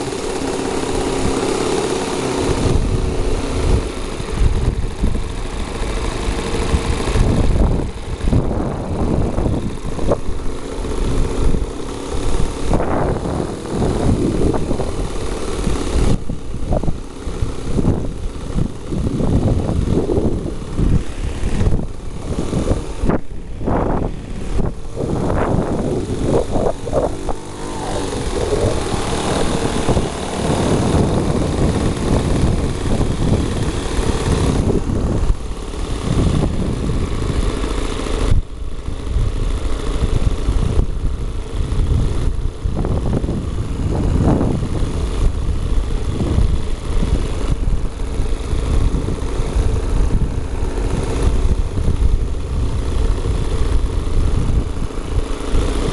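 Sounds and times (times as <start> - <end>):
model airplane engine running: 0.0 - 55.9.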